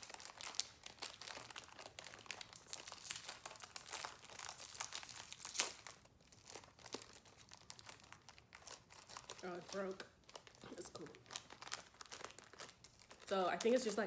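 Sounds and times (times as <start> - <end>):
wrapper crinkling and tearing: 0.0 - 14.0.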